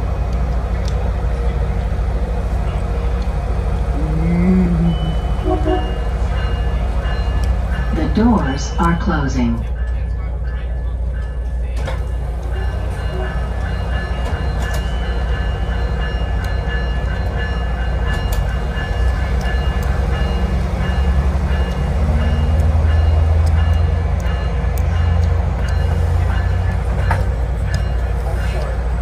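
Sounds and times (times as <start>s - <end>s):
rail noise: 0.0s - 29.0s
train engine rumble: 0.0s - 29.0s.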